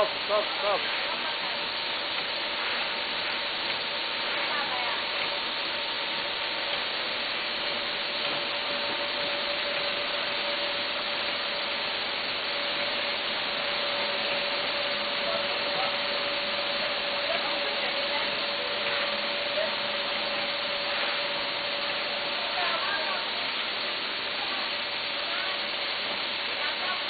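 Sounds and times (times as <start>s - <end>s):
packaging machine hiss and whine: 0.0s - 27.0s.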